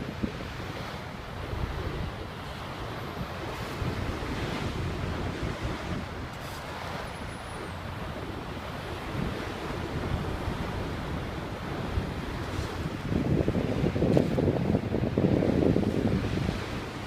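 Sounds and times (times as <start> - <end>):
sea water splashing: 0.0 - 17.0
wind buffeting microphone: 0.0 - 17.0.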